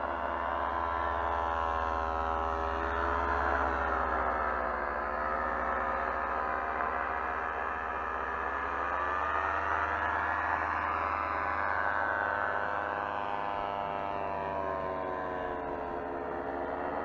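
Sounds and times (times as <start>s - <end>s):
engine running with changing revs: 0.0s - 17.0s.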